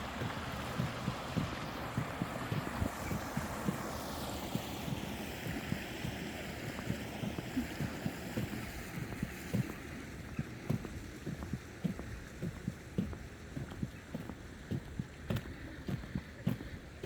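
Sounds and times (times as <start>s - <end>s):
footsteps thudding: 0.0s - 16.8s
steady rushing noise: 0.0s - 17.0s.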